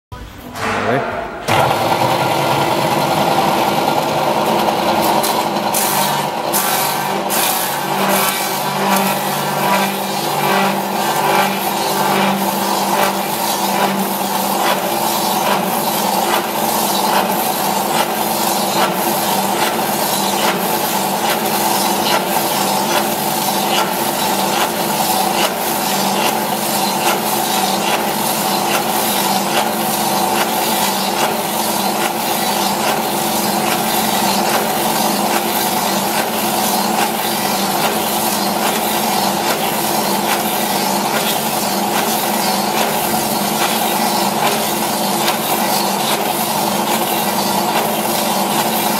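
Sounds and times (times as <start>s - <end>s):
cutter chipping wood: 1.5s - 48.9s.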